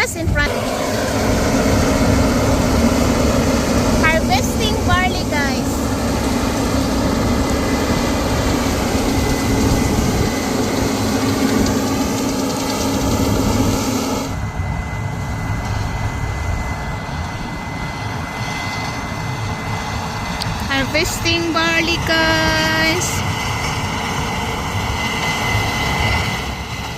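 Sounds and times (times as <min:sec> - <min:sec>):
combine harvester drone: 0:00.0 - 0:26.9.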